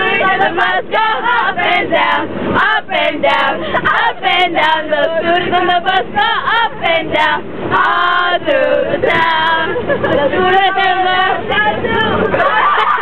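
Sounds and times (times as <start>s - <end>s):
young voices singing in chorus: 0.0s - 13.0s.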